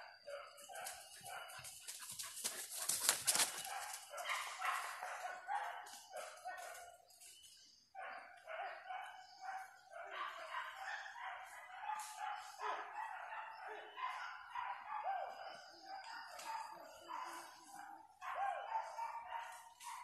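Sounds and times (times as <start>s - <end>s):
dogs barking and yelping: 0.0s - 7.1s, 7.9s - 20.0s.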